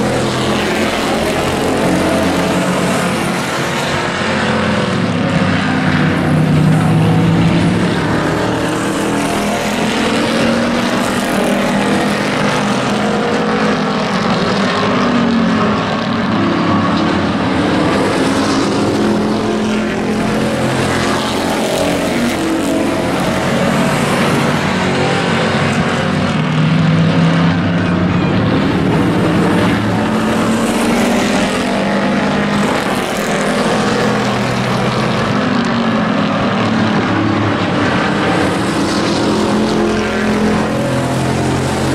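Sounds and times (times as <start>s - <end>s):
race truck engines: 0.0s - 41.9s.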